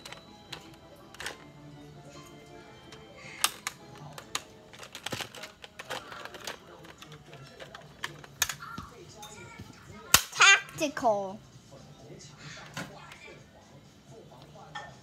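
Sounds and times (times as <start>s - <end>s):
background music: 0.0s - 14.5s.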